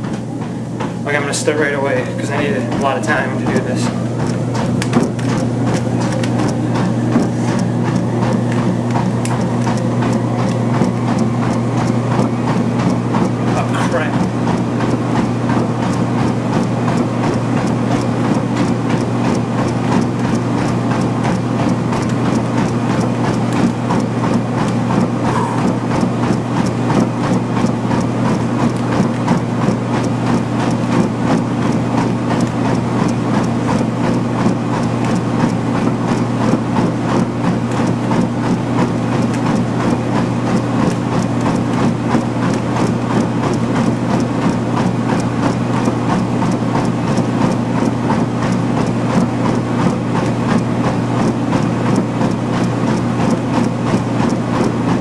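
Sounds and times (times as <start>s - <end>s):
treadmill motor and belt hum: 0.0s - 55.0s.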